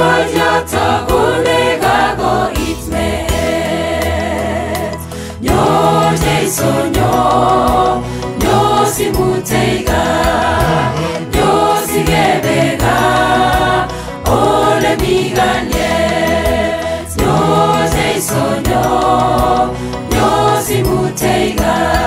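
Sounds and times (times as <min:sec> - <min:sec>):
choir singing gospel song: 0:00.0 - 0:22.0.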